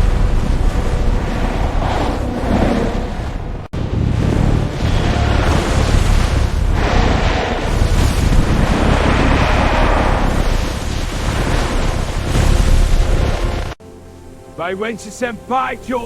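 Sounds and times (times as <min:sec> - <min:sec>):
loud rushing rumble: 0:00.0 - 0:13.8.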